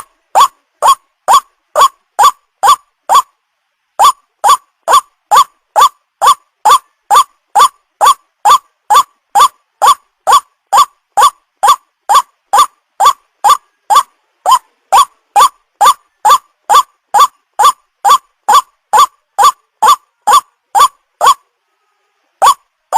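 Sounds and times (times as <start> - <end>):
waterhen call: 0.0 - 3.3, 4.0 - 21.4, 22.4 - 22.6.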